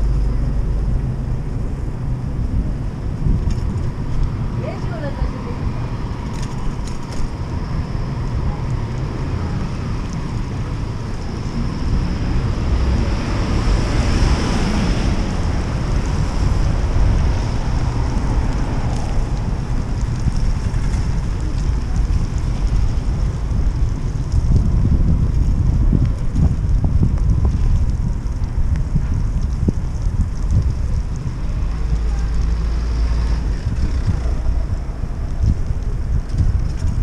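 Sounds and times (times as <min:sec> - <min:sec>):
street noise: 0:00.0 - 0:37.0
wind buffeting microphone: 0:00.0 - 0:37.0.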